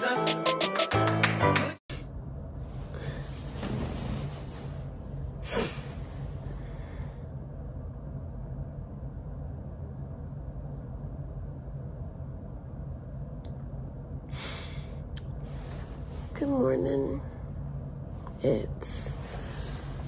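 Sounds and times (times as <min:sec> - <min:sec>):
low room hum: 0:01.9 - 0:20.0.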